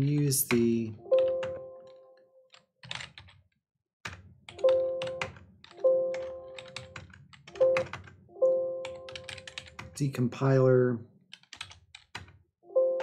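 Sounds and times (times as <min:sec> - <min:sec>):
computer keyboard typing: 0:00.0 - 0:03.4, 0:04.5 - 0:10.2, 0:11.4 - 0:13.0.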